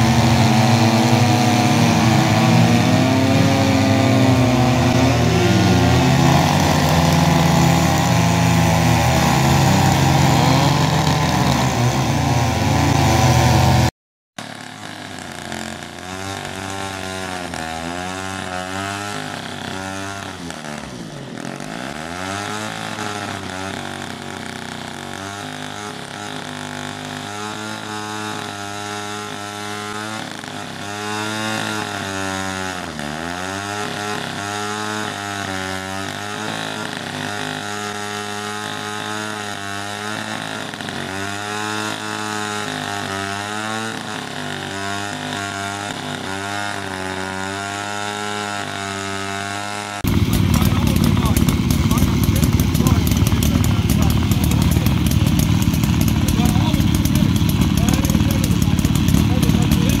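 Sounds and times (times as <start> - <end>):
chainsaw cutting through log: 0.0 - 60.0.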